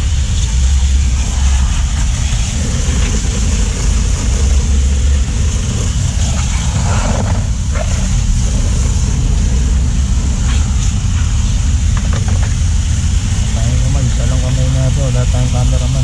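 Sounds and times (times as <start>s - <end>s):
power washer motor drone: 0.0s - 16.0s
water spray hissing: 0.0s - 16.0s.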